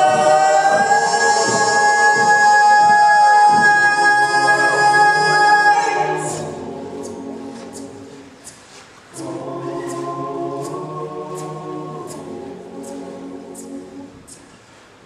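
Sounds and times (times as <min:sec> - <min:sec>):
male a cappella group singing: 0:00.0 - 0:14.5.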